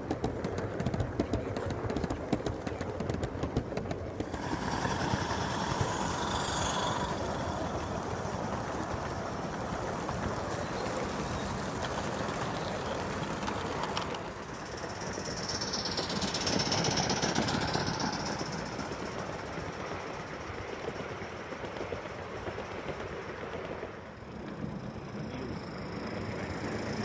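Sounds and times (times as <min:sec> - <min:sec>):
model train running on track: 0:00.0 - 0:27.0.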